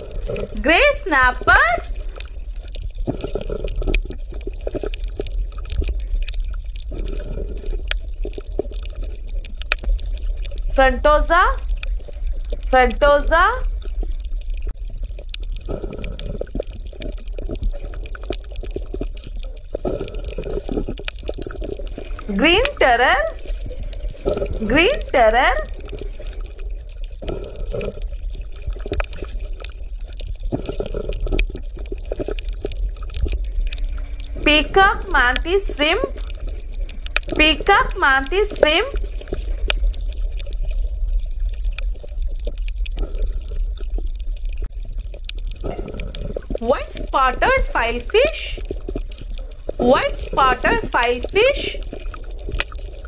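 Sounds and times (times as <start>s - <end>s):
underwater clicks and crackles: 0.0s - 53.0s
underwater low rumble: 0.0s - 53.0s
water bubbling: 0.0s - 53.0s.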